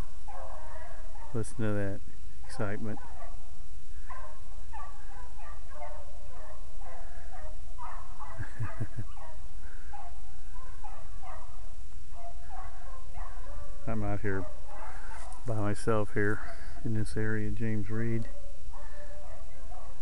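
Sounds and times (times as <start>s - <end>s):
pack of dogs baying: 0.0s - 1.8s, 2.4s - 20.0s.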